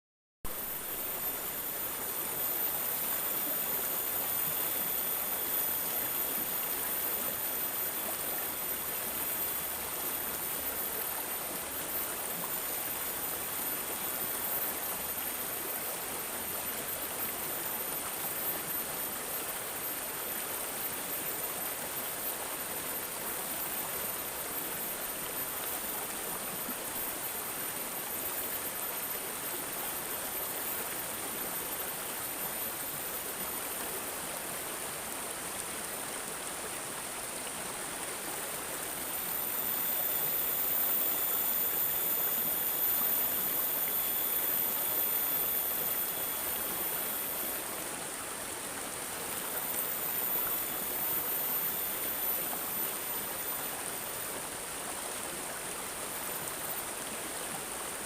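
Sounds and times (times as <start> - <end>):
high-pitched whine: 0.5 - 58.0
stream water babbling: 0.5 - 58.0.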